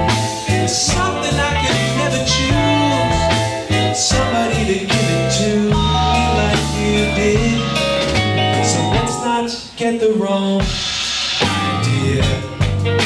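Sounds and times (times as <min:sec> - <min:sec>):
bass notes: 0:00.0 - 0:09.8, 0:11.4 - 0:13.0
drums and cymbals: 0:00.0 - 0:09.8, 0:10.6 - 0:13.0
guitar: 0:00.0 - 0:13.0.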